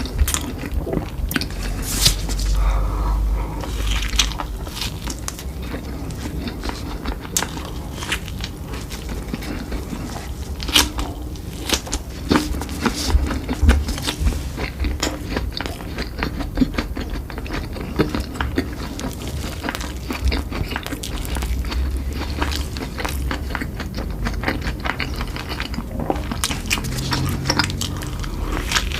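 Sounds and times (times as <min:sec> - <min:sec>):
person chewing food: 0:00.0 - 0:28.9.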